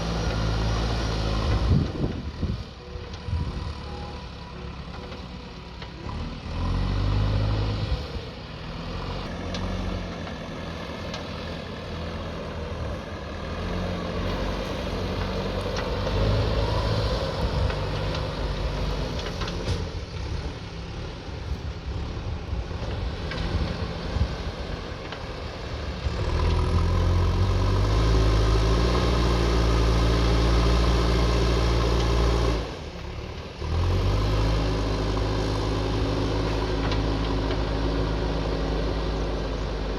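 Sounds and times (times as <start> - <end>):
backhoe diesel engine working: 0.0 - 39.9.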